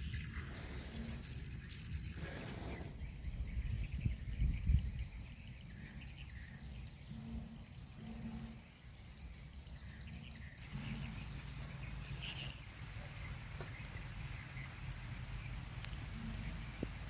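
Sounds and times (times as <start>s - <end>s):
insect trilling: 0.0s - 17.0s
steady hiss: 0.0s - 17.0s.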